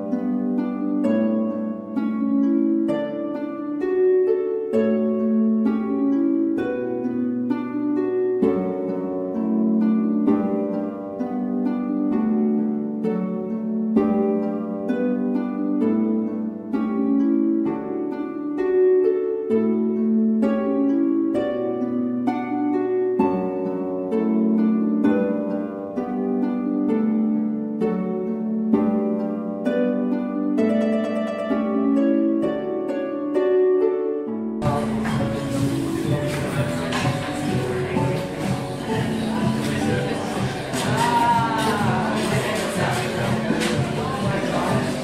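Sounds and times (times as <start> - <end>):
plucked melody over low notes: 0.0 - 45.0.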